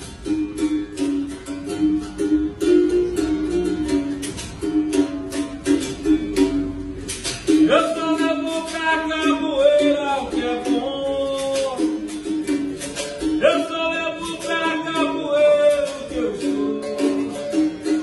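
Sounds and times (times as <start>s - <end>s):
percussion clicks and rattles: 3.4s - 18.0s.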